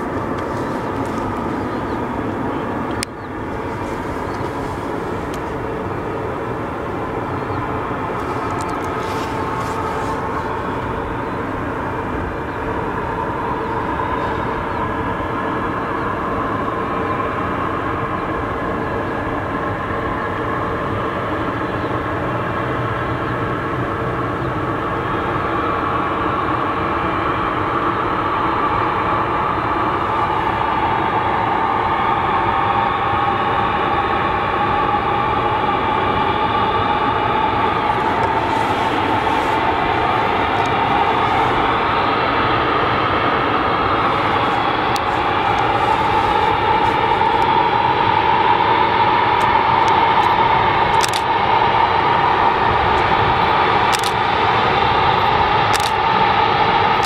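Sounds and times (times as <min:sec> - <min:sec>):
high hum: 0:00.0 - 0:22.5, 0:23.8 - 0:57.0
jet engines at takeoff power: 0:00.0 - 0:57.0.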